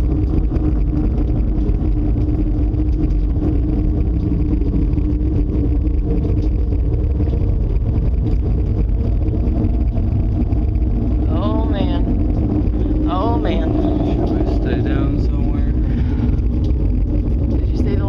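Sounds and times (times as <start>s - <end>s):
droning hum: 0.0s - 18.0s
storm wind rumbling: 0.0s - 18.0s.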